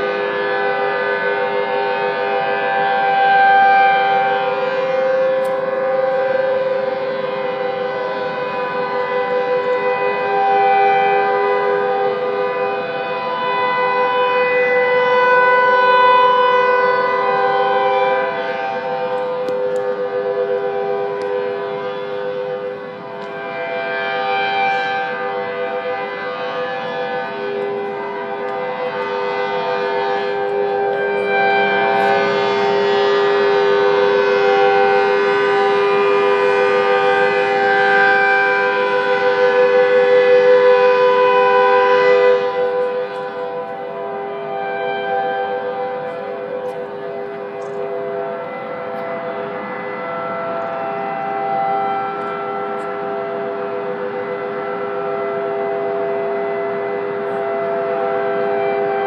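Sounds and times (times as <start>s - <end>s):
outdoor warning sirens: 0.0s - 59.0s.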